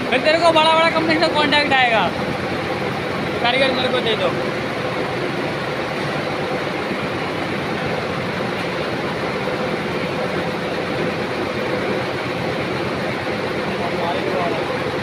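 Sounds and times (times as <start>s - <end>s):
mid-pitched machine hum: 0.0s - 15.0s
textile machinery running: 0.0s - 15.0s.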